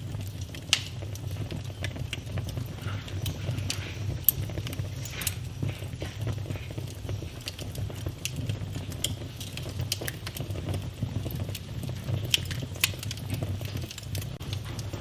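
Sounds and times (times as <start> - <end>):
low rumble of fire: 0.0 - 15.0
wood fire crackling and popping: 0.0 - 15.0.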